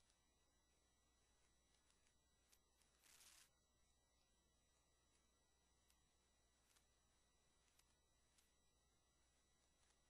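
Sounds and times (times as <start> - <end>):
faint steady hum and hiss: 0.0 - 10.0.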